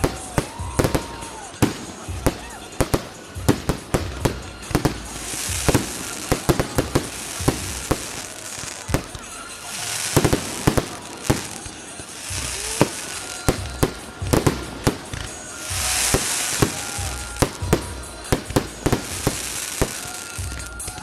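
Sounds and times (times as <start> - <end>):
fireworks bangs: 0.0 - 21.0
hissing crackle of bursting shells: 0.0 - 21.0.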